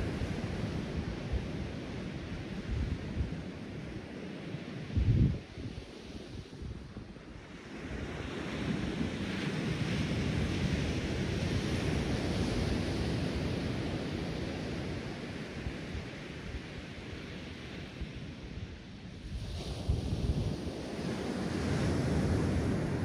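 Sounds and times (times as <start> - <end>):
wind buffeting microphone: 0.0 - 17.4, 18.0 - 23.0
ocean surf on sandy beach: 0.0 - 23.0.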